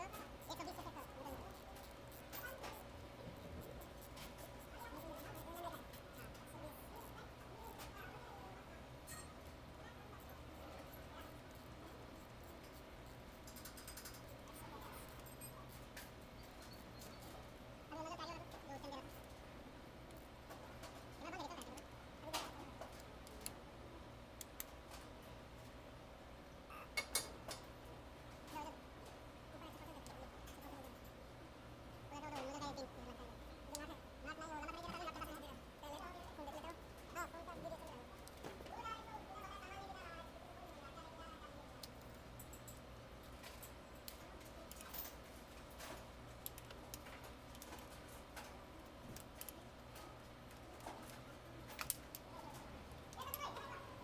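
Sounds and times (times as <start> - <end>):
soft steady hum: 0.0 - 54.0.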